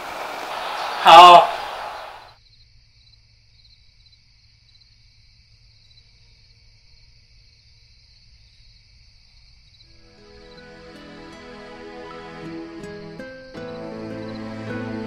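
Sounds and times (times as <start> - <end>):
crickets chirping: 1.7 - 15.0.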